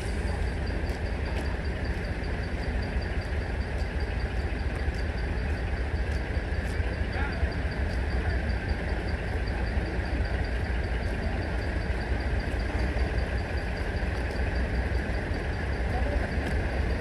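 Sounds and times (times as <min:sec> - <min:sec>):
diesel truck engines idling: 0:00.0 - 0:17.0.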